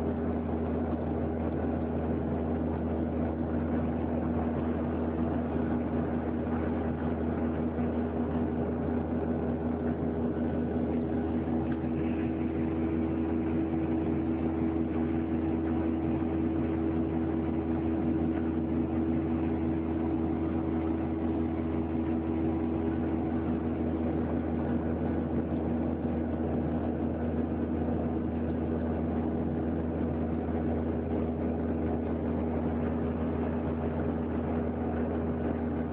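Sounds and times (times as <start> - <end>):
airplane cabin drone: 0.0 - 35.9.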